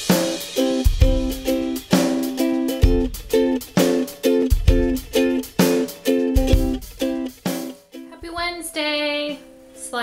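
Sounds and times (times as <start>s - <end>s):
strummed acoustic chords: 0.0s - 10.0s.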